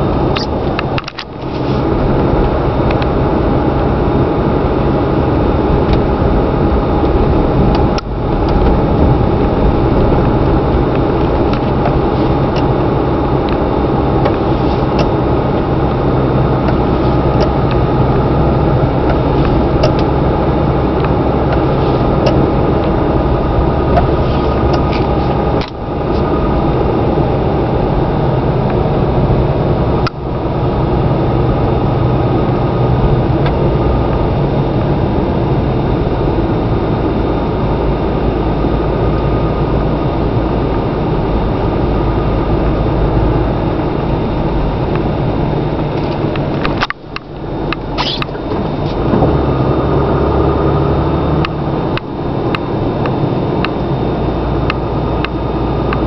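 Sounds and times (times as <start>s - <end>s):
diesel engine driving from inside cab: 0.0s - 56.0s.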